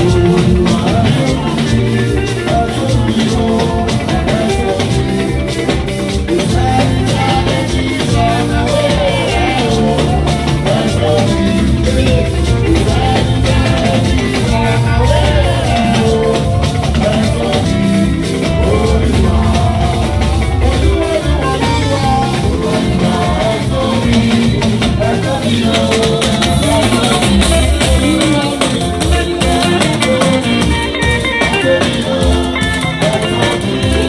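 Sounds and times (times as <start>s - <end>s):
drums beating: 0.0s - 34.0s
group singing: 0.0s - 34.0s.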